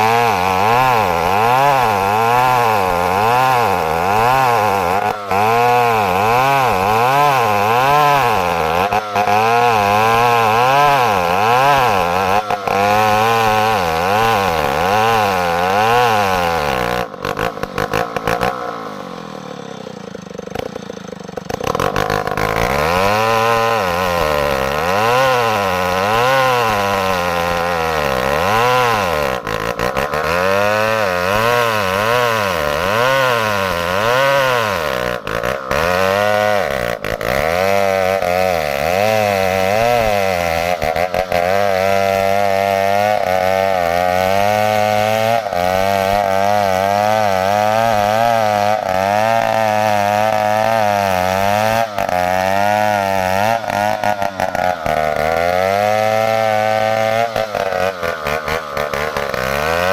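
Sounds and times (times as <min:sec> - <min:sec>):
chainsaw engine surging: 0:00.0 - 0:59.9.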